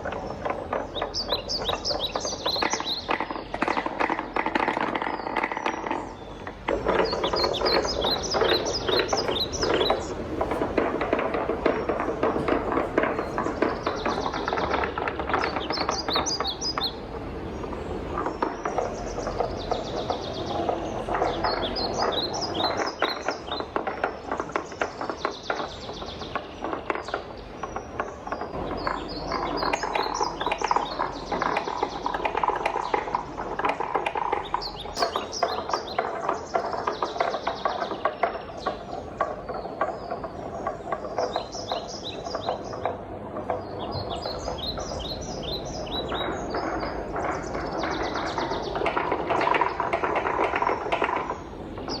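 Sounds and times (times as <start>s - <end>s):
wooden balls rolling down track: 0.0s - 52.0s.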